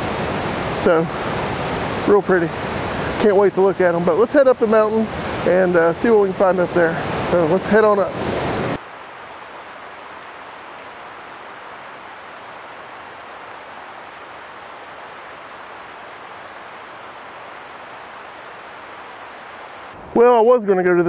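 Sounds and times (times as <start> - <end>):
distant flowing water: 0.0 - 21.0.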